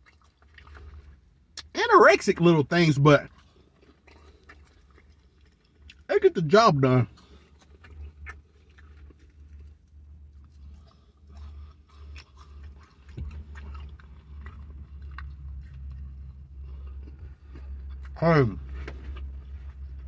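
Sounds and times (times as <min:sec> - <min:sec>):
man chewing food: 0:00.0 - 0:01.7, 0:03.2 - 0:20.0
steady low hum: 0:00.0 - 0:20.0.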